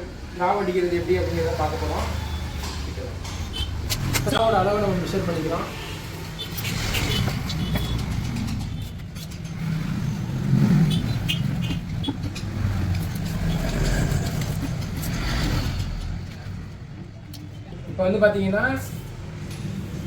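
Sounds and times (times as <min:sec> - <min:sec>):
vehicle engine rumbling: 0:00.5 - 0:18.0.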